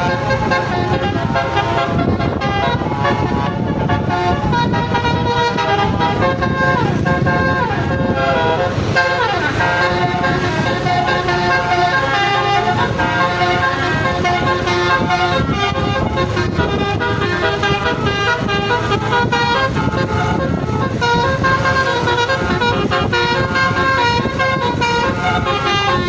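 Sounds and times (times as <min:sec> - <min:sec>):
bus horn playing a tune: 0:00.0 - 0:26.0.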